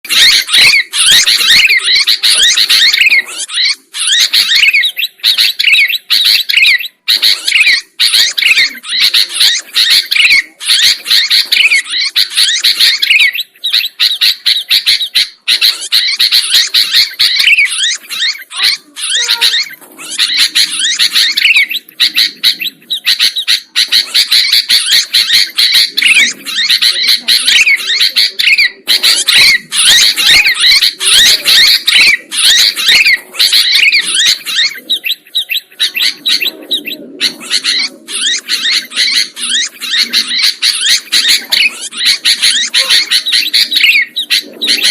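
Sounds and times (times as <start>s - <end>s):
birds chattering and singing: 0.0s - 44.9s.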